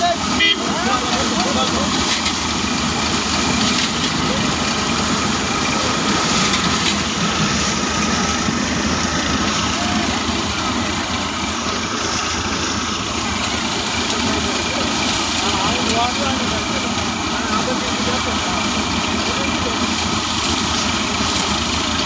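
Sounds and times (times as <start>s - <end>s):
thresher machine droning: 0.0s - 22.0s.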